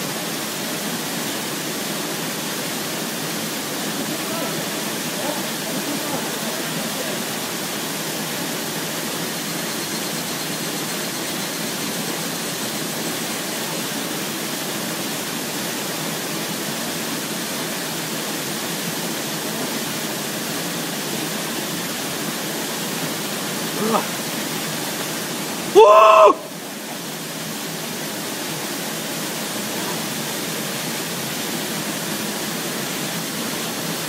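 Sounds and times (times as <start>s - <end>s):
waterfall pouring into pool: 0.0s - 34.0s.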